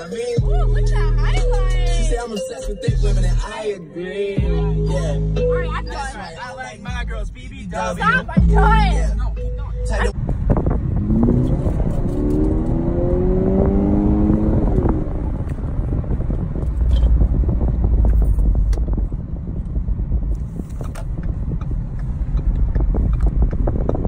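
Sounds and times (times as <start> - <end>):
road rumble: 0.0 - 24.0
car engine accelerating: 4.2 - 24.0.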